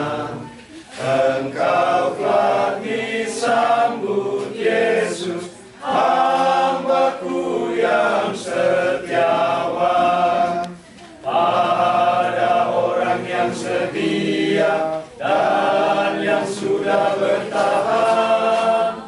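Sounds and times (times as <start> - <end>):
men singing a hymn: 0.0 - 19.0.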